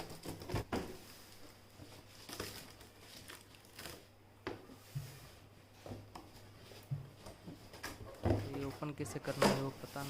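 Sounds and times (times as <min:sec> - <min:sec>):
cardboard rustling and crinkling: 0:00.0 - 0:04.1, 0:04.8 - 0:10.0.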